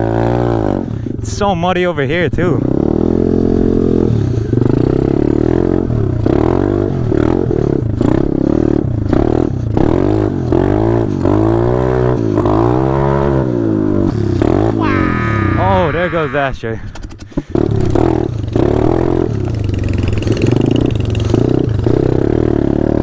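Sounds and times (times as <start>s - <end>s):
off-road bike engine revving: 0.0s - 1.2s, 2.3s - 23.0s.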